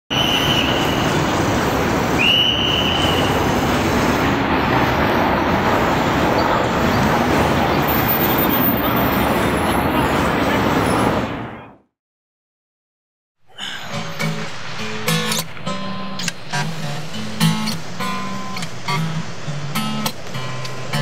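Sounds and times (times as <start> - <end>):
city traffic rumble: 0.1 - 11.9, 13.4 - 21.0.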